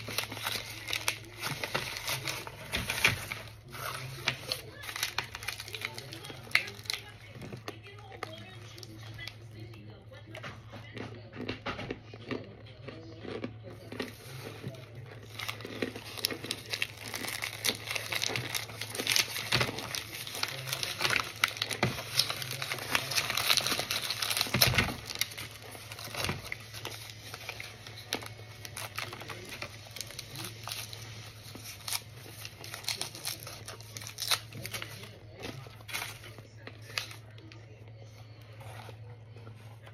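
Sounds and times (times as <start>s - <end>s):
cornstarch chunks crunching: 0.0s - 39.9s.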